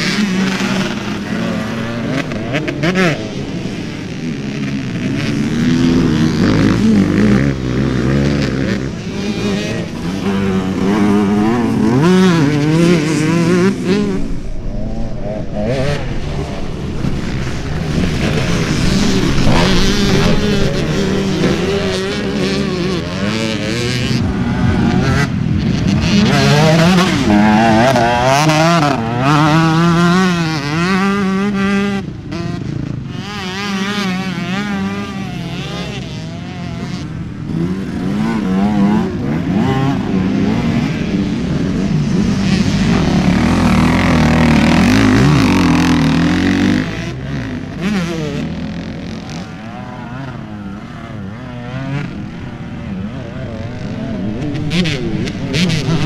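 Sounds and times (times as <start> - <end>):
motocross bike engines revving: 0.0 - 56.0.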